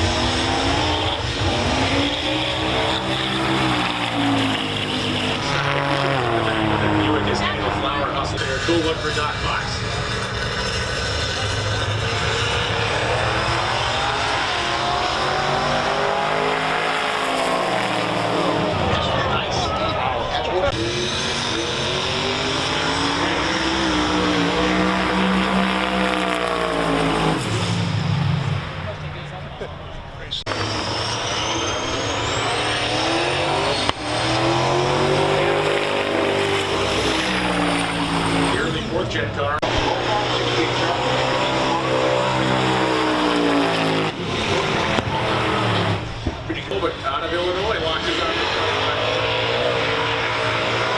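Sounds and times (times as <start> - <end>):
racing car engine at full throttle: 0.0 - 50.9.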